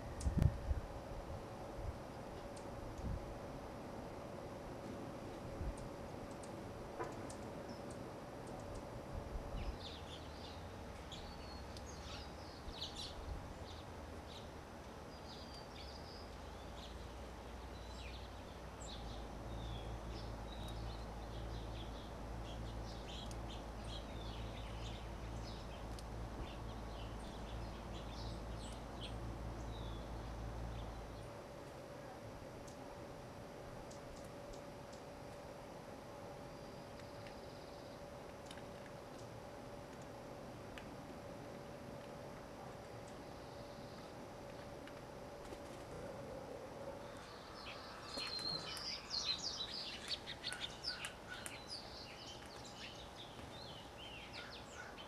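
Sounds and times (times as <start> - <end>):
low background rumble: 0.0 - 55.0
songbirds chirping: 0.0 - 55.0.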